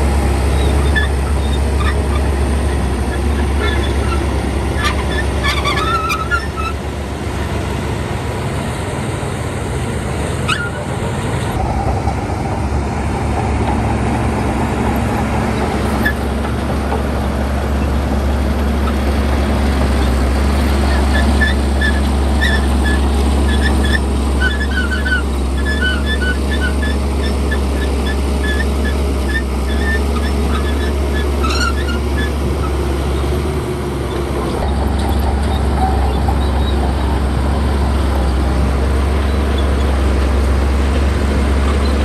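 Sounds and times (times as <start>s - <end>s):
heavy diesel engine rumbling: 0.0s - 42.0s.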